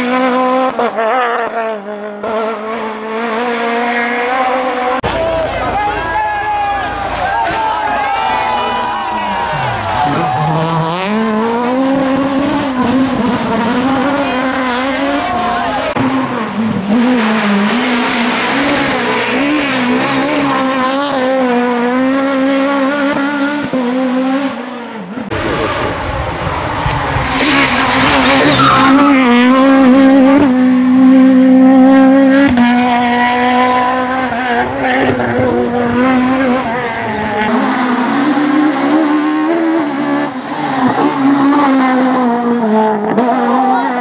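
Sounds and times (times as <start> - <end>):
rally car engine revving: 0.0 - 6.1, 6.7 - 44.0.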